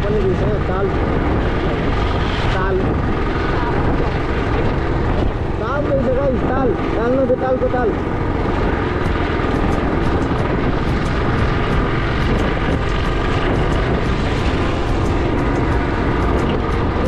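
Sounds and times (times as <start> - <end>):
motorcycle engine running: 0.0 - 17.0
wind noise: 0.0 - 17.0.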